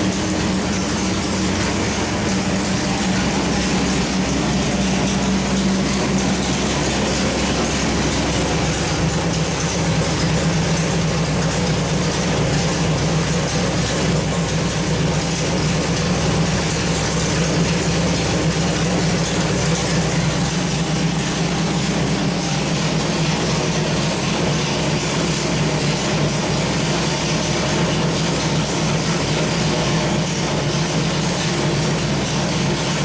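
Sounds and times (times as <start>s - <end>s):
engine droning on dynamometer: 0.0s - 33.0s.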